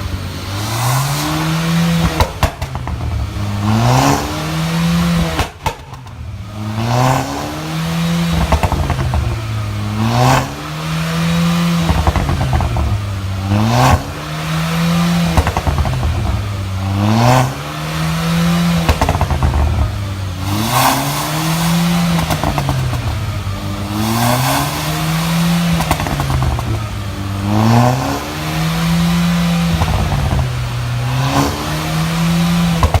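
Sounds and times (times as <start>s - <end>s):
car engine revving: 0.0s - 33.0s
exhaust pops: 0.0s - 33.0s.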